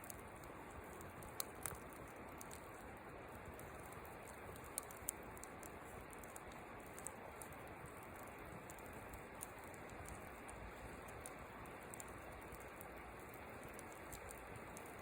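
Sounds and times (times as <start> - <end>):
fire popping: 0.0 - 15.0
wood fire hissing: 0.0 - 15.0.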